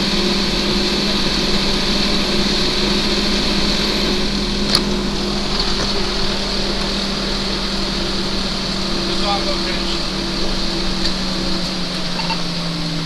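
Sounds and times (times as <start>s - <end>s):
mechanical drone with low hum: 0.0s - 13.0s.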